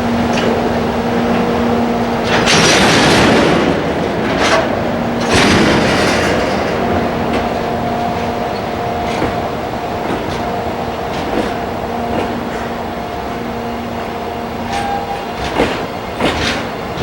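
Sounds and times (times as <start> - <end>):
electric locomotive hum: 0.0 - 17.0.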